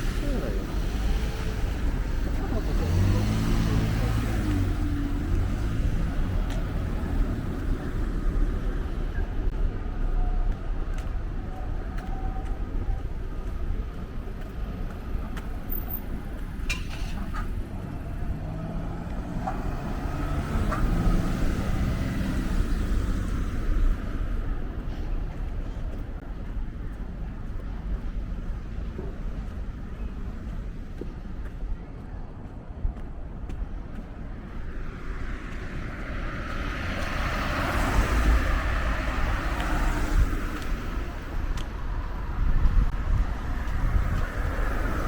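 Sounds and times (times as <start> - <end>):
cars passing: 0.0 - 45.0.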